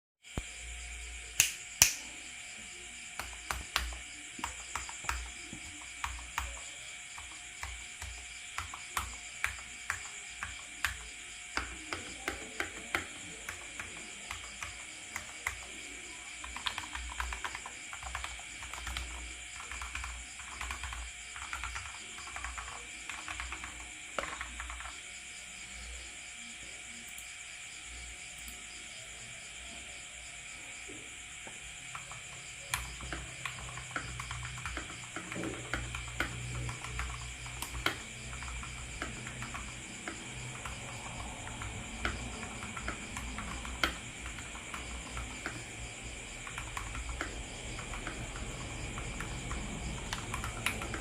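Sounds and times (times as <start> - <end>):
mechanical keyboard typing: 3.2 - 25.0, 31.9 - 51.0.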